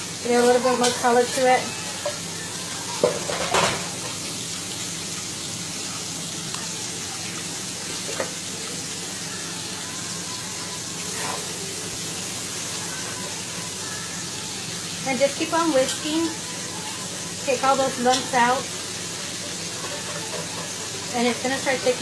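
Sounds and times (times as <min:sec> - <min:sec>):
gravy sizzling in a pot: 0:00.0 - 0:22.0.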